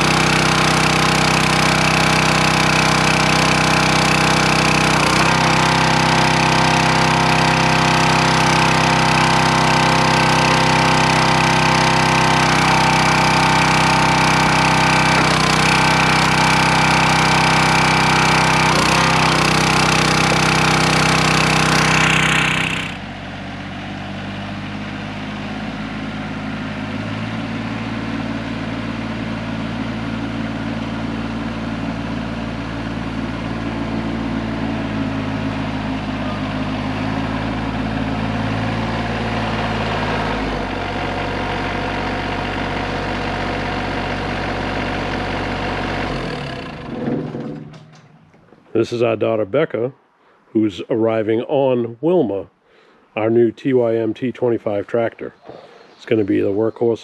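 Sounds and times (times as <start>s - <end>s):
small engine running: 0.0s - 48.3s.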